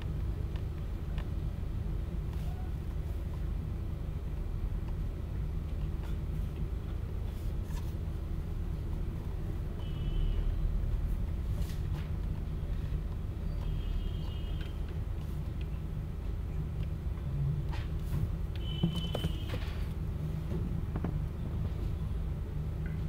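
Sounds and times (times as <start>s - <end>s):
low room hum and rumble: 0.0s - 23.0s.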